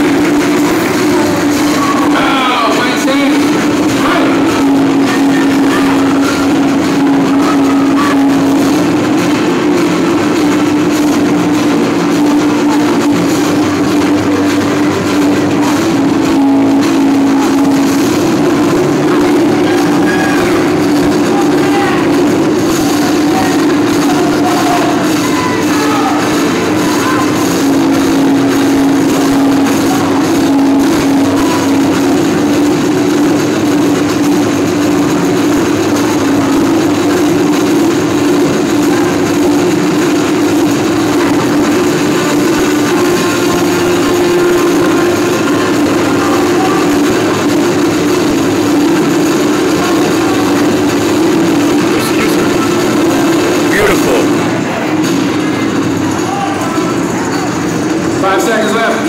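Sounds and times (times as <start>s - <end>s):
loud music with droning low note: 0.0s - 56.0s
crowd voices and calls: 0.0s - 59.0s.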